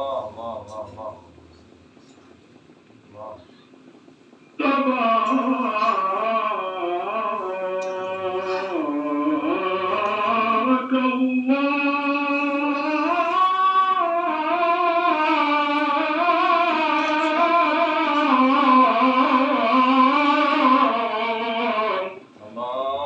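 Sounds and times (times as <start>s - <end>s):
man chanting melismatic melody: 0.0s - 1.6s, 4.6s - 23.0s.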